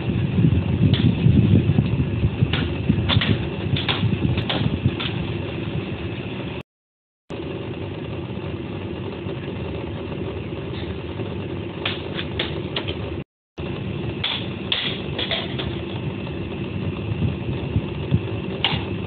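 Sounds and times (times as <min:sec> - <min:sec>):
steady mechanical hum: 0:00.0 - 0:06.7, 0:07.3 - 0:19.0.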